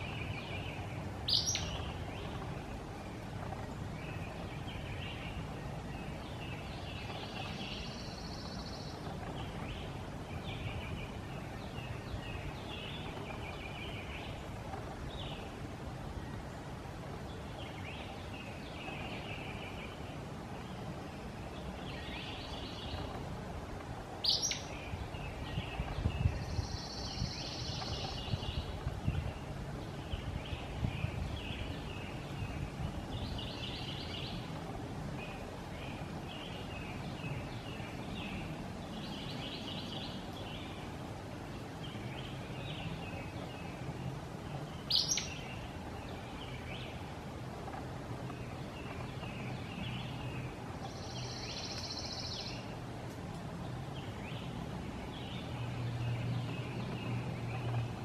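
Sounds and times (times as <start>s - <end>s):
soft bird chirps and trills: 0.0s - 58.0s.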